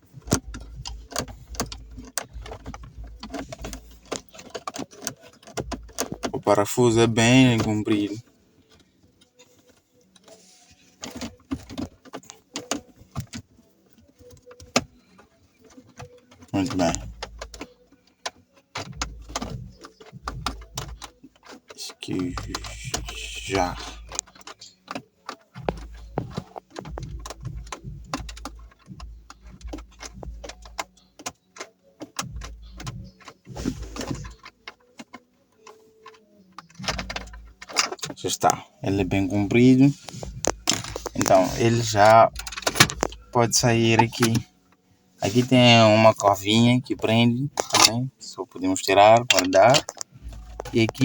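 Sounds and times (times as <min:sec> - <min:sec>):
hands handling plastic panel: 0:00.0 - 0:51.0.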